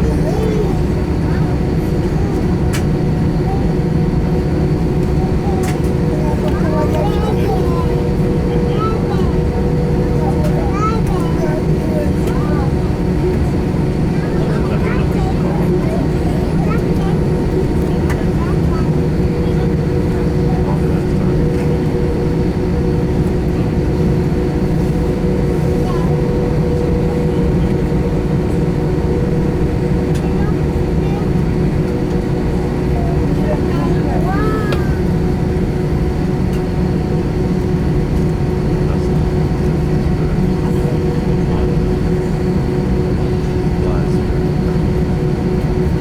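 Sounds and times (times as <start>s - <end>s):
jet engines in airplane cabin: 0.0s - 46.0s
steady hum: 0.0s - 46.0s.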